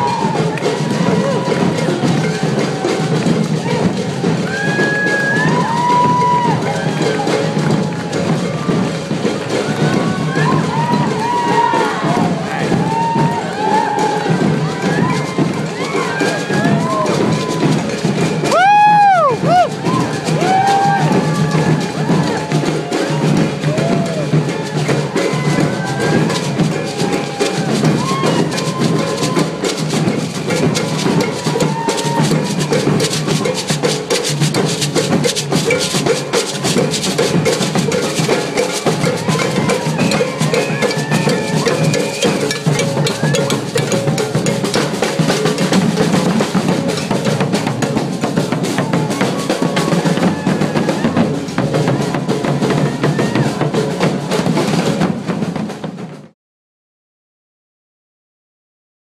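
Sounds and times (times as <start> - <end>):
drum group playing fast rhythm: 0.0 - 56.4.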